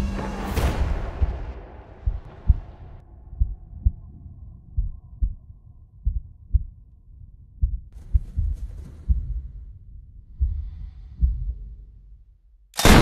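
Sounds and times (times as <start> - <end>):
heartbeat thumps: 0.6 - 6.8, 7.5 - 11.9.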